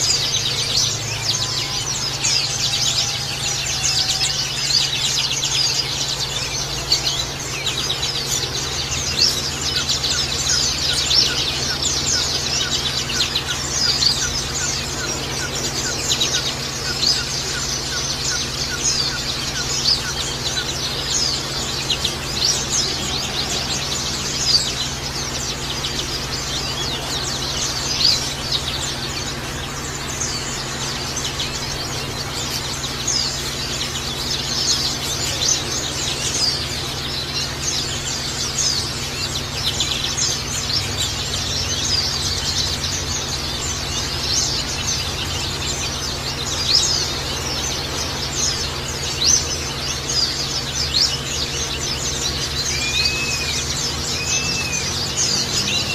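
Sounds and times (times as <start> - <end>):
small songbirds chirping: 0.0 - 55.9
steady low hum: 0.0 - 55.9.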